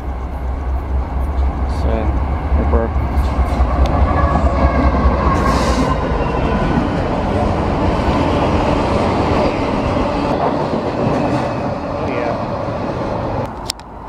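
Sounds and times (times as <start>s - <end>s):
locomotive engine rumble: 0.0s - 14.0s.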